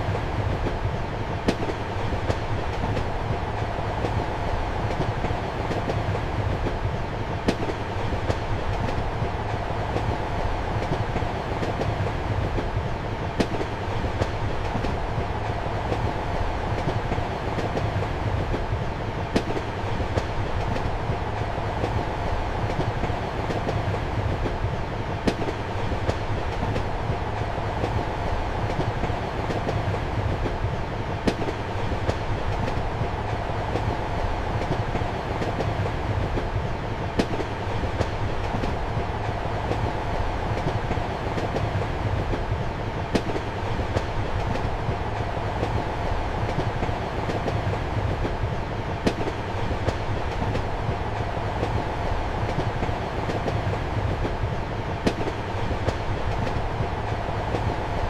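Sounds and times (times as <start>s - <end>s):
train rumble and hum: 0.0s - 58.0s
wheels clattering on rails: 0.0s - 58.0s.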